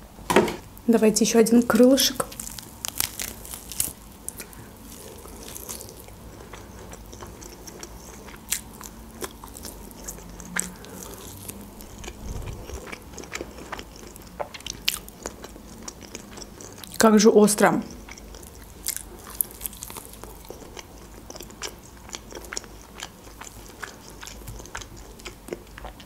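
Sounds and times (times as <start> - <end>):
meat tearing: 1.8 - 17.0, 18.0 - 25.3
person chewing: 2.2 - 17.0, 17.8 - 26.0.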